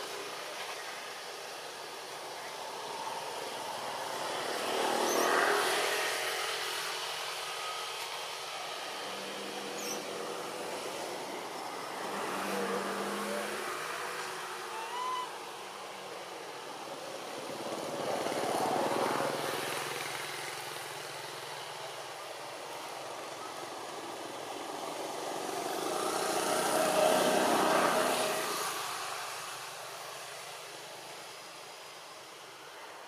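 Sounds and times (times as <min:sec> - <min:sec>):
motor vehicles passing by: 0:02.3 - 0:31.3.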